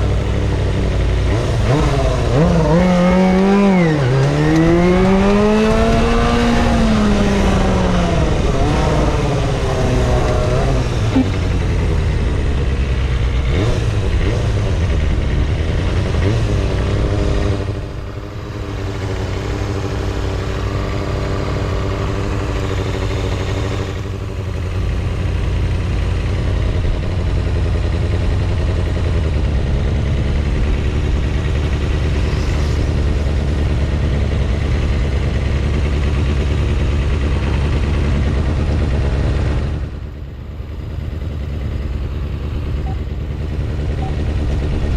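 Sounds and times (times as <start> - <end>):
road noise rumble: 0.0 - 44.9
vehicle engine revving: 0.0 - 44.9.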